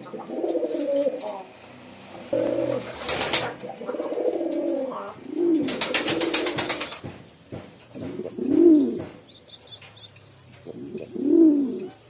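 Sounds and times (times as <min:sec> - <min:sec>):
pigeons cooing: 0:00.0 - 0:07.0, 0:08.0 - 0:12.0.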